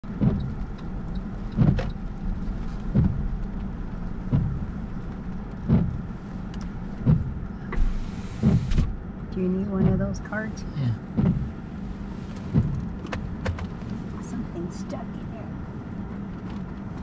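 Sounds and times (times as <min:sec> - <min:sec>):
car cabin low hum: 0:00.0 - 0:17.0
windshield wipers swishing: 0:00.1 - 0:17.0.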